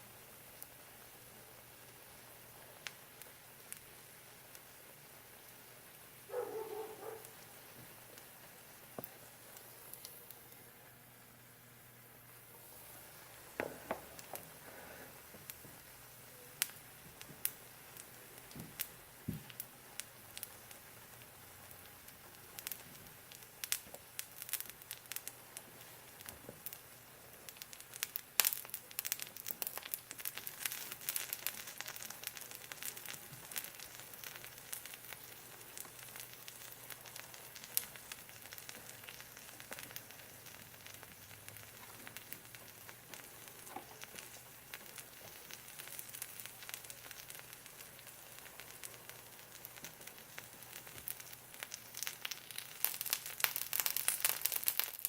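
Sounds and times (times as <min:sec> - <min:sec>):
cheese sizzling in a pan: 0:00.0 - 0:55.0.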